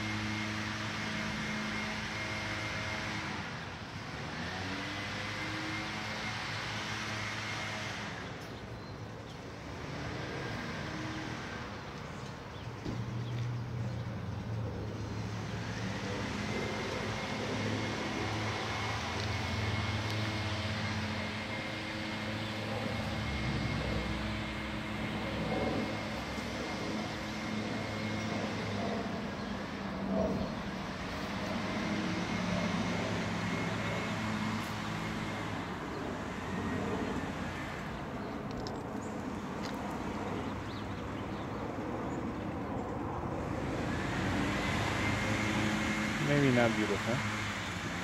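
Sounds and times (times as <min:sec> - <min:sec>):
vehicle engine hum: 0:00.0 - 0:48.0.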